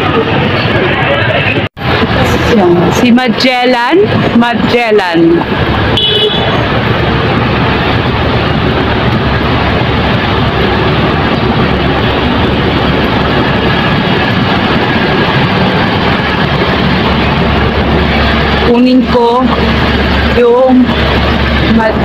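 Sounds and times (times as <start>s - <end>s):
road traffic rumble: 0.0s - 22.0s
low hum: 1.6s - 22.0s.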